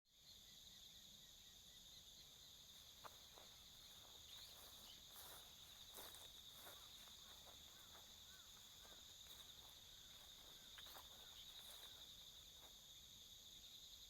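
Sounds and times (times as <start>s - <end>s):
night insects chirring: 0.1s - 14.0s.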